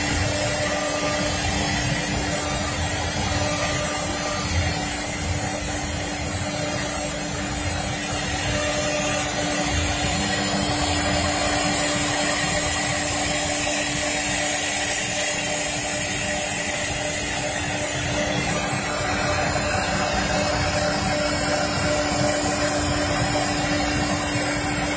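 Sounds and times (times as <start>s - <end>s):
router whining while engraving: 0.0s - 24.9s.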